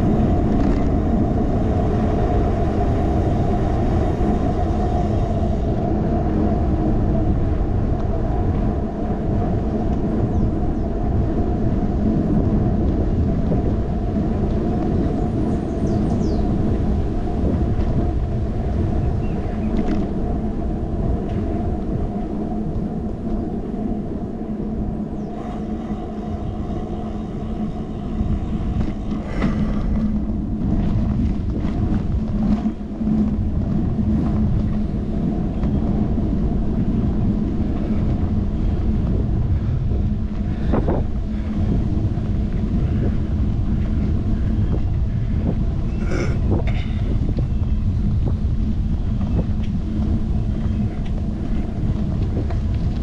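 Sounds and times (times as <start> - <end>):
bicycle rattles: 0.0 - 53.0
wind and road rumble: 0.0 - 53.0.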